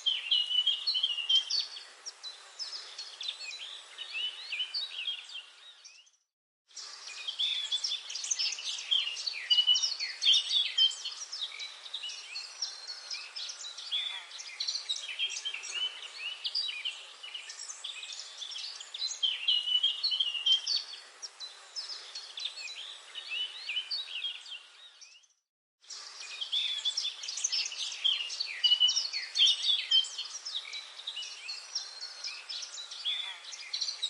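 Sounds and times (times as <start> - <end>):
birds singing and chirping: 0.0 - 6.2, 6.8 - 34.0.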